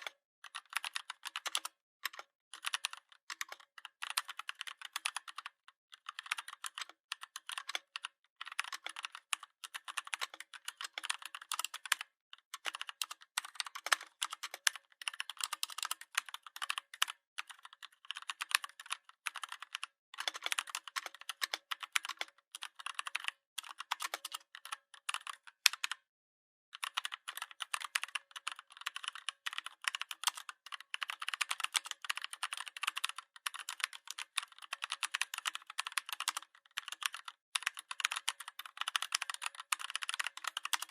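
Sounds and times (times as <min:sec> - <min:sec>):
typing on computer keyboard: 0:00.0 - 0:26.1, 0:26.7 - 0:40.9.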